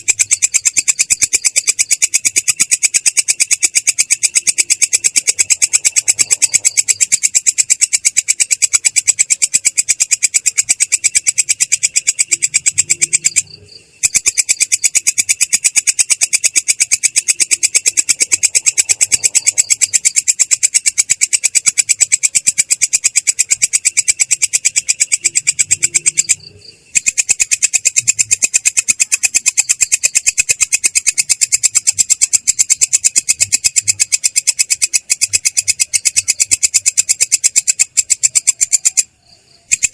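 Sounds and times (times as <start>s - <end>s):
katydid stridulating trill: 0.0s - 39.9s.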